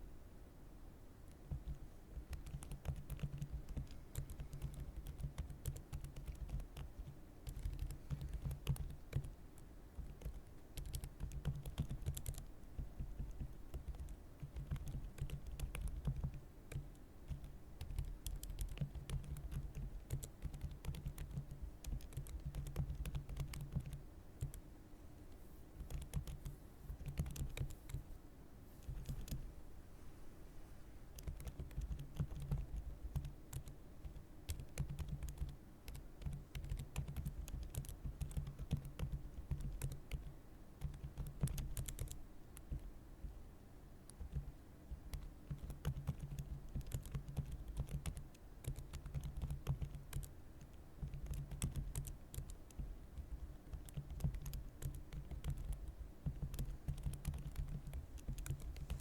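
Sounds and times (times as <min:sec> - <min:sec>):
computer keyboard keys clicking: 0:01.3 - 0:09.4, 0:10.0 - 0:24.6, 0:25.8 - 0:28.0, 0:28.8 - 0:29.4, 0:31.2 - 0:42.8, 0:44.1 - 0:59.0.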